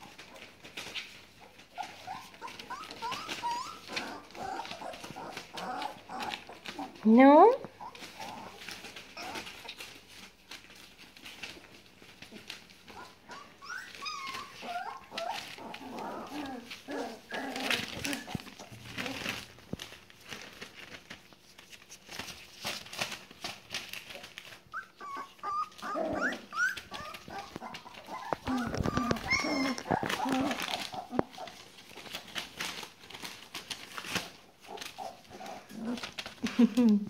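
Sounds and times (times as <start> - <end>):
puppies whimpering and yipping: 0.0 - 7.0, 7.7 - 19.9, 23.8 - 36.8
newspaper rustling: 0.0 - 7.1, 7.7 - 37.0.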